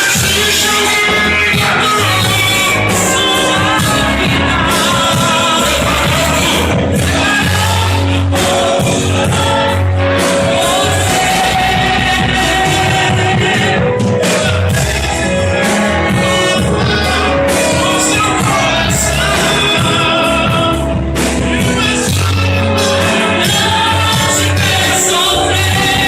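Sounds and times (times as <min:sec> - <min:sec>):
bass: 0:00.0 - 0:26.0
gospel singing: 0:00.0 - 0:26.0
steady drum beat: 0:00.0 - 0:26.0.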